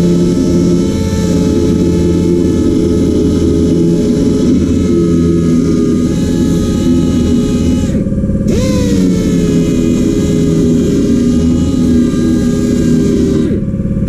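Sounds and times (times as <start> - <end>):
machine motor humming: 0.0 - 14.0.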